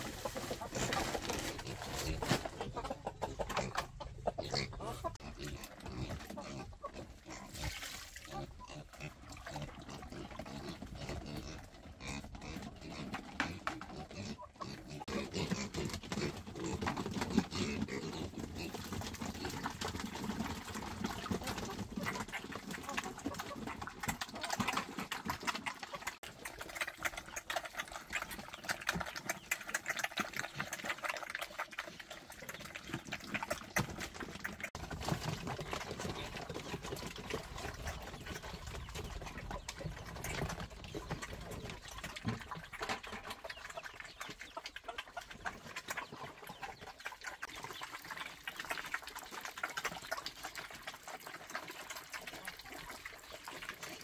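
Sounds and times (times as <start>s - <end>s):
piglets slurping and chomping: 0.0s - 54.0s.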